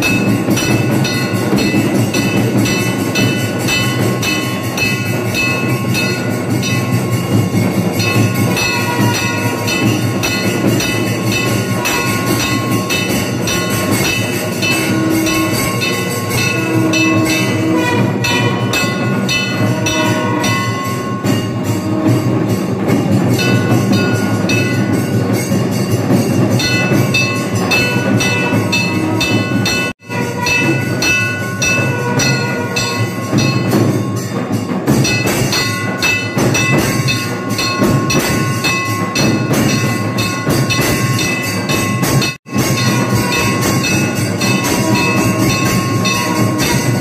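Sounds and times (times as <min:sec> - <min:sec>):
clanging bells: 0:00.0 - 0:47.0
high ringing tones: 0:00.0 - 0:47.0
rapid drum beating: 0:00.0 - 0:47.0.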